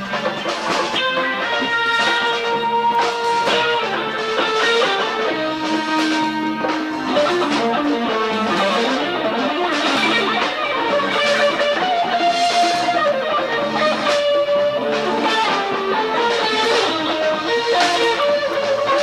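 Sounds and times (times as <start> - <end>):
bass guitar: 0.0 - 19.0
drums: 0.0 - 19.0
electric guitar melody: 0.0 - 19.0.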